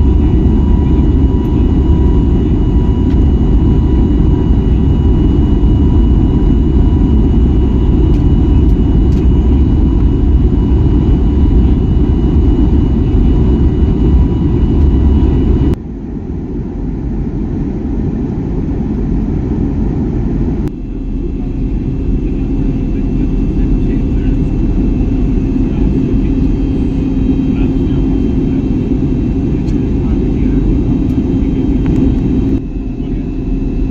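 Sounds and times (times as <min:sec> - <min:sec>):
faint steady whine: 0:00.0 - 0:17.5, 0:18.3 - 0:33.9
jet engine and airflow rumble: 0:00.0 - 0:33.9.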